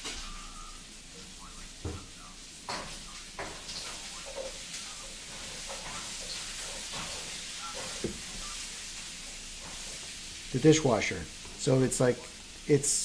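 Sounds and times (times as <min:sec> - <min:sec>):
food sizzling in a pan: 0:00.0 - 0:13.0
cooking clicks and knocks: 0:01.1 - 0:12.4.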